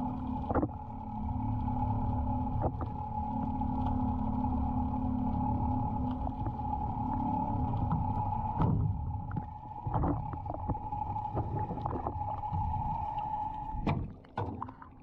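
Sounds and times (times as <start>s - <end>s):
boat engine droning underwater: 0.0s - 15.0s.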